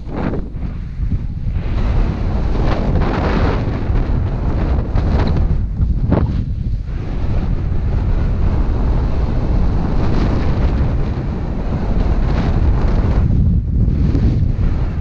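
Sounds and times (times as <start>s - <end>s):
snowboard scraping over snow: 0.0s - 15.0s
wind buffeting microphone: 0.0s - 15.0s.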